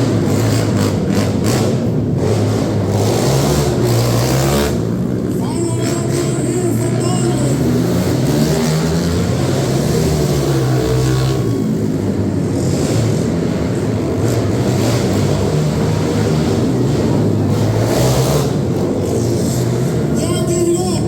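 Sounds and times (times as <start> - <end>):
racing engines revving: 0.0 - 21.0.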